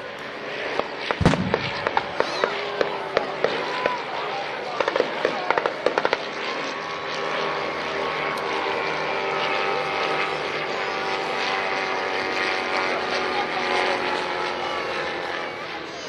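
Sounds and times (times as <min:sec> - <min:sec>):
propeller planes flying over: 0:00.0 - 0:16.0.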